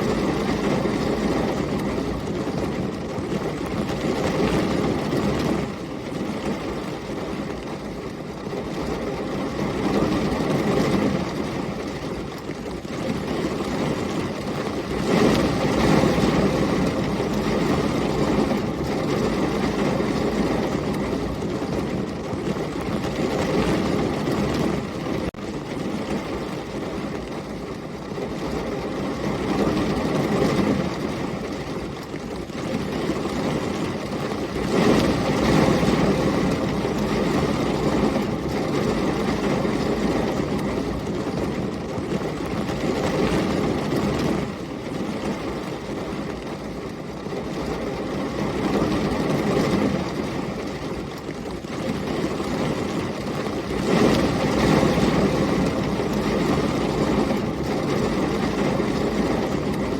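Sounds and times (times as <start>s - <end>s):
heavy rain: 0.0s - 59.9s
storm wind: 0.0s - 59.9s.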